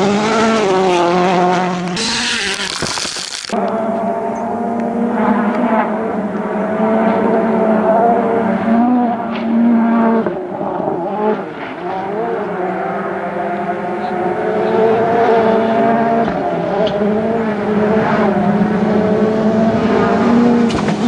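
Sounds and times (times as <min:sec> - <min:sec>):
rally car engine running: 0:00.0 - 0:21.0.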